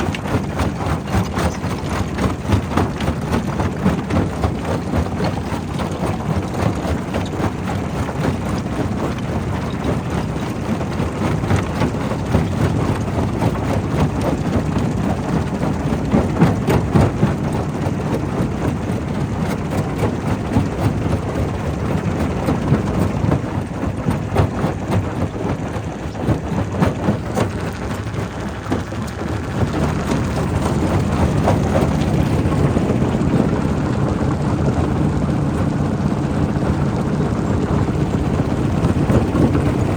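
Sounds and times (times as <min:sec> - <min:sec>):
rock crusher rumble: 0:00.0 - 0:39.9.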